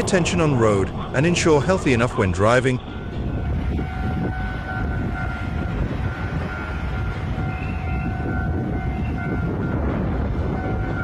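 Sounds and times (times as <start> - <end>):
train rumbling by: 0.0 - 11.0.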